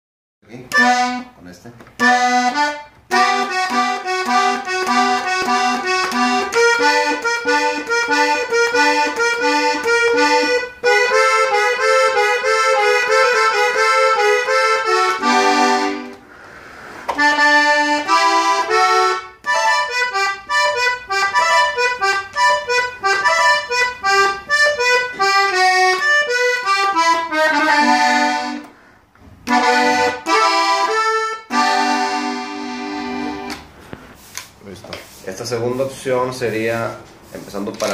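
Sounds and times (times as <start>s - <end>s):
button accordion melody: 0.6s - 1.4s, 2.0s - 16.4s, 17.0s - 33.8s.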